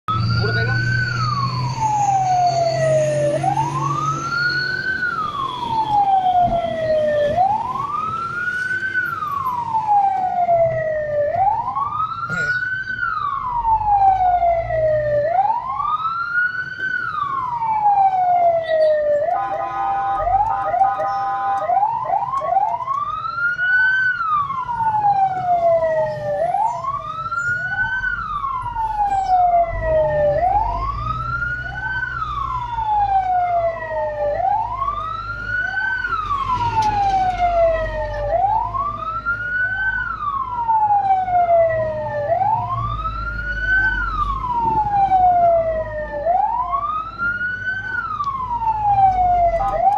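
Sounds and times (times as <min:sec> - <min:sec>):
fire truck siren wailing: 0:00.1 - 0:49.9
truck engine rumbling: 0:00.1 - 0:49.9.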